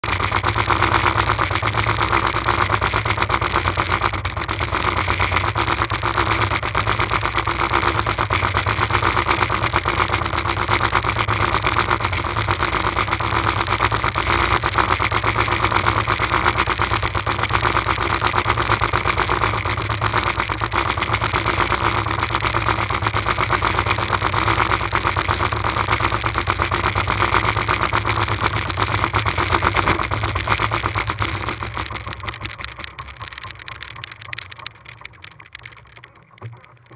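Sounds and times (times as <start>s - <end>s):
boat motor running: 0.0s - 36.9s.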